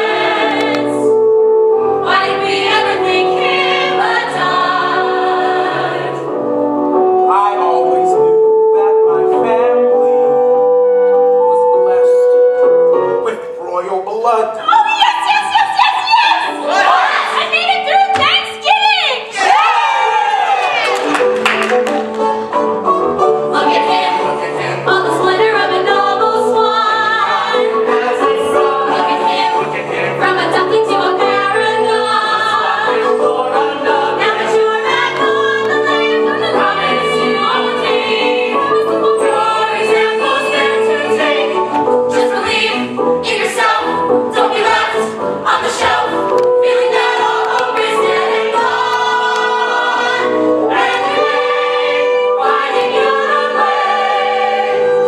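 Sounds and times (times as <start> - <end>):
chorus of voices singing: 0.0 - 10.6, 14.6 - 18.0, 19.2 - 55.0.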